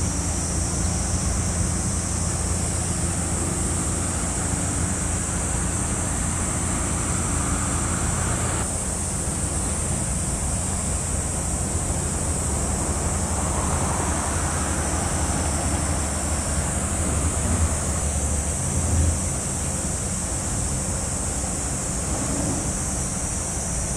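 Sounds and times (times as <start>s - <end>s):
distant engine drone: 0.0s - 23.9s
steady high hiss: 0.0s - 23.9s
wind: 0.0s - 23.9s.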